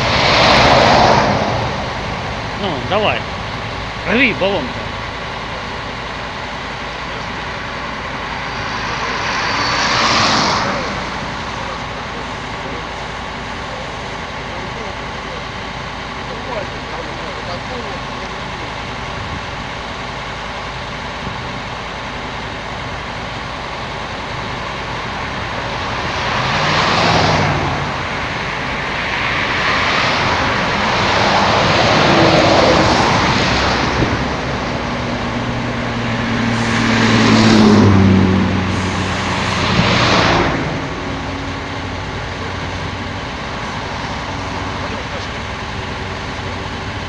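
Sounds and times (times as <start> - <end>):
steady engine hum: 0.0 - 47.0
vehicles passing: 0.0 - 47.0.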